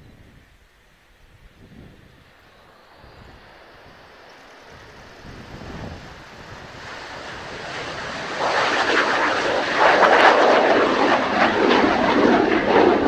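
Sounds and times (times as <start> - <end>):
jet engines roaring: 0.6 - 13.0.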